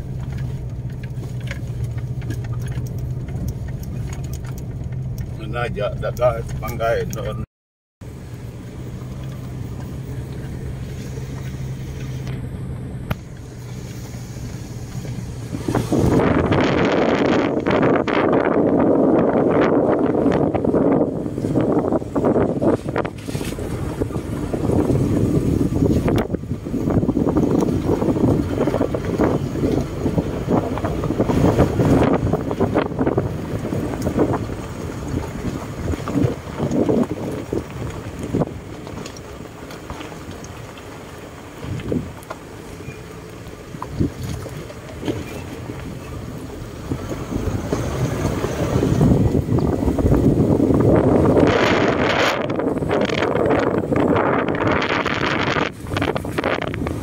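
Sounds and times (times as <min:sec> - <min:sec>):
stones crunching under tyres: 0:00.0 - 0:07.4, 0:08.2 - 0:57.0
car driving on gravel: 0:00.0 - 0:57.0
wind buffeting microphone: 0:08.4 - 0:57.0.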